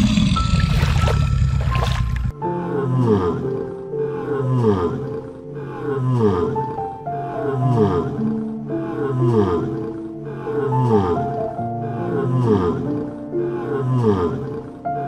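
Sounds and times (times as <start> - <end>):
background music with held notes: 0.4 - 15.0.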